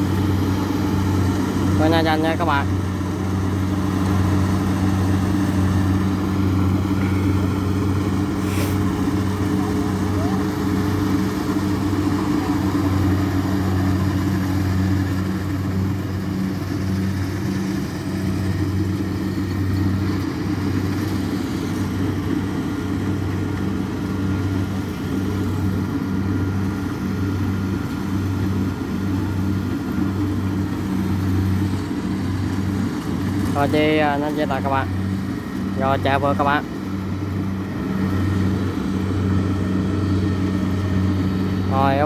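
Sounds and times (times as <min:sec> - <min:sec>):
combine harvester engine droning: 0:00.0 - 0:42.0.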